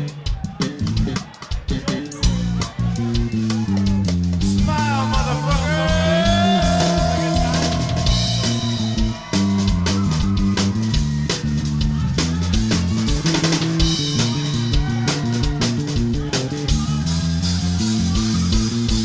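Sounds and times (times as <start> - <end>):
bass and drum kit: 0.0 - 19.0.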